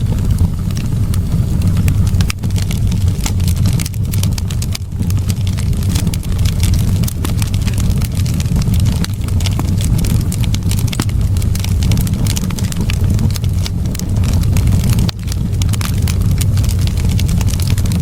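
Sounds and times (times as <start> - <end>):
fire flames rumbling: 0.0 - 18.0
wood fire crackling and popping: 0.0 - 18.0.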